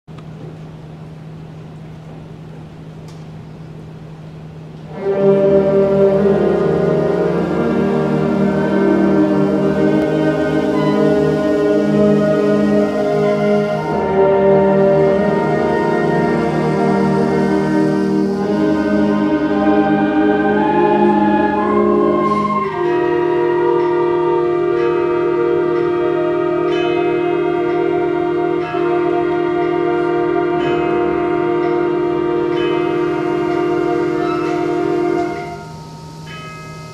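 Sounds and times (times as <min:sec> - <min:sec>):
steady low hum: 0:00.1 - 0:36.9
concert band holding a chord: 0:04.8 - 0:36.9.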